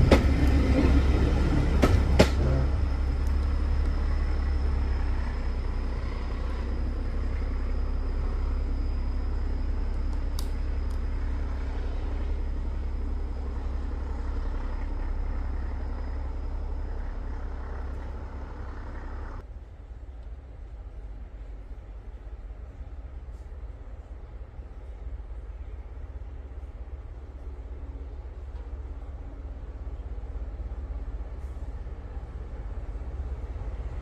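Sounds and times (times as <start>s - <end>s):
diesel locomotive deep rumble: 0.0s - 34.0s.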